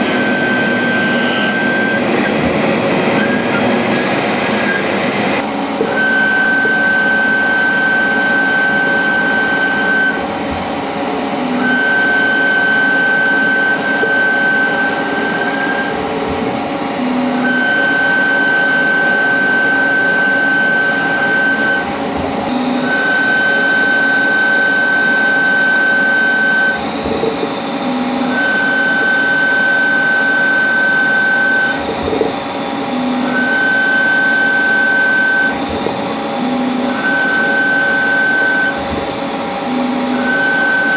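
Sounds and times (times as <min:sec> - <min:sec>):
high machine whine: 0:00.0 - 0:40.9
machine hum: 0:00.0 - 0:40.9.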